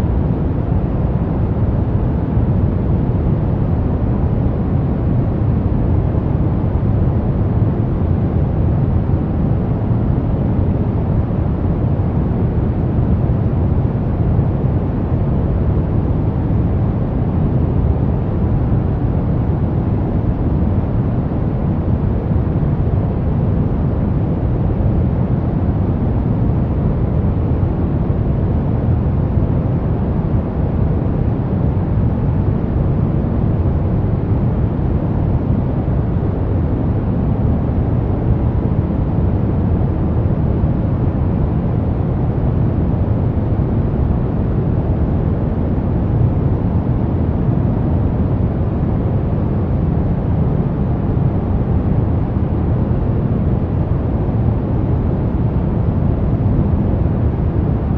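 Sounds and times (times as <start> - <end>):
brown noise: 0.0 - 57.9.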